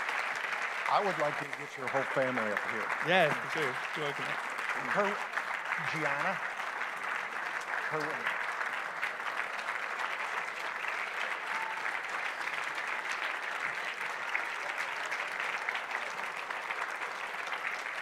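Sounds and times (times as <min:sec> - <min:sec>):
congregation clapping: 0:00.0 - 0:18.0.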